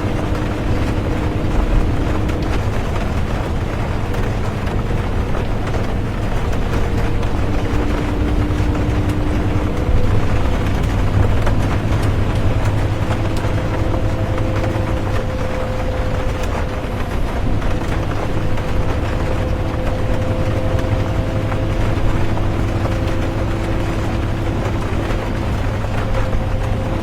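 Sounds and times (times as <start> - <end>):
bus engine and road rumble: 0.0 - 27.0
faint whining tones: 0.0 - 27.0
raindrops ticking: 0.0 - 27.0.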